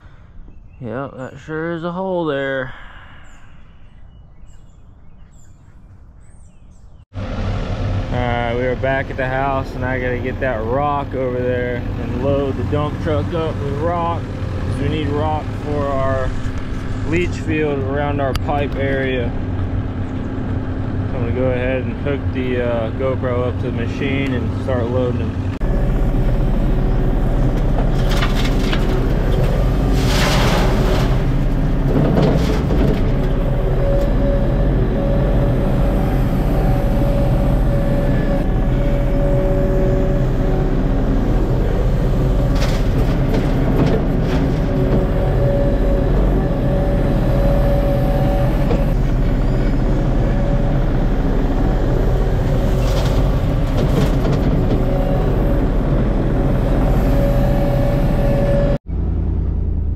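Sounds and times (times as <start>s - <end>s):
diesel engine under load: 7.1s - 59.9s
hydraulic whine: 7.2s - 58.9s.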